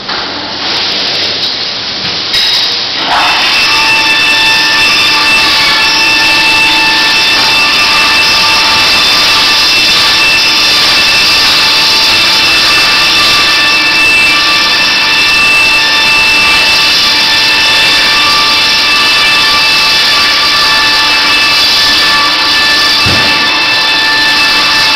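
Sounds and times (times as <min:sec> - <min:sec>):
high whining tones: 0:03.0 - 0:24.9.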